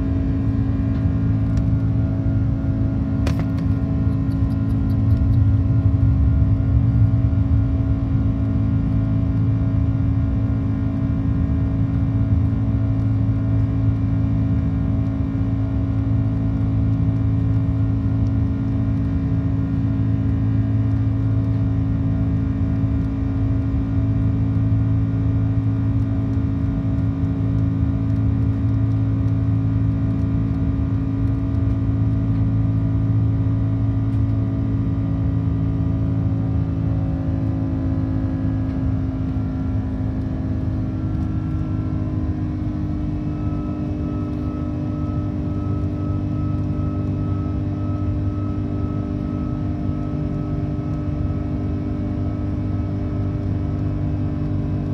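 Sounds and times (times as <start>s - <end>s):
airplane cabin engine drone: 0.0s - 54.9s.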